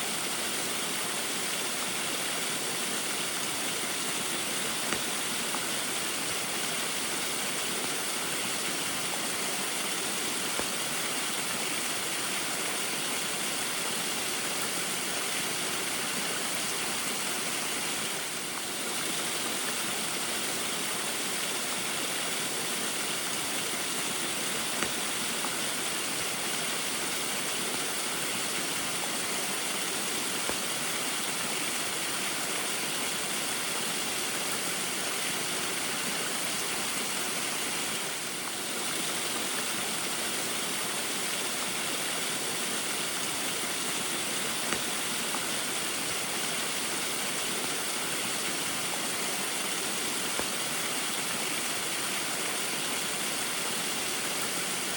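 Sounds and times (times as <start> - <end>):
small waterfall rushing: 0.0 - 54.9.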